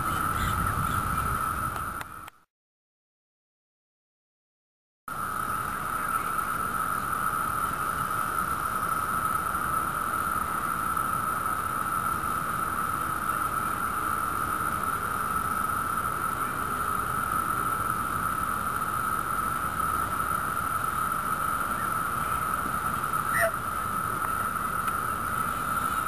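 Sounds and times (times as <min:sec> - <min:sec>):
cicadas droning: 0:00.0 - 0:02.3, 0:05.1 - 0:26.0.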